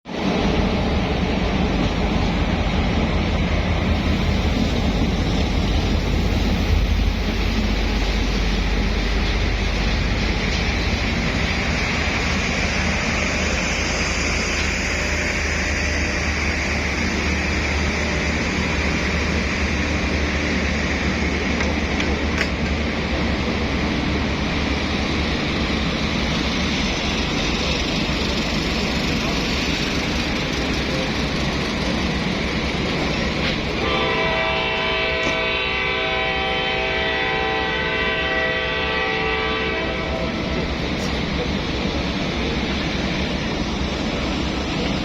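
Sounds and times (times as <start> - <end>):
diesel locomotive engine rumble: 0.1 - 45.0
train wheels rumbling on rails: 0.1 - 45.0.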